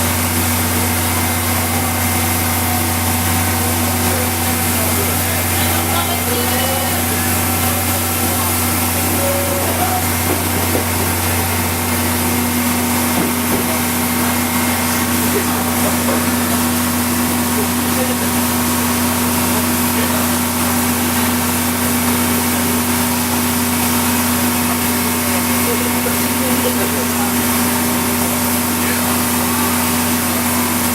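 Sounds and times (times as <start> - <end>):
locomotive machine hum: 0.0 - 30.9.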